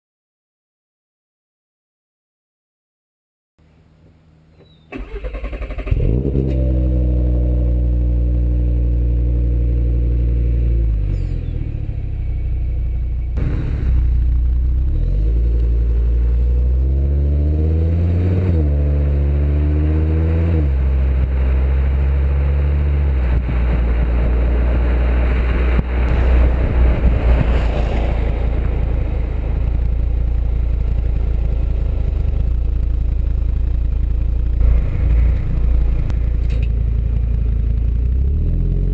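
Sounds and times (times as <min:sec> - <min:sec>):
car engine revving: 0:05.0 - 0:38.9.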